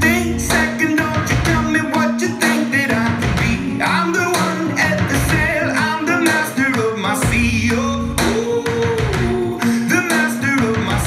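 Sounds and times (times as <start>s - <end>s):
song with singer guitar and beat: 0.0s - 11.0s.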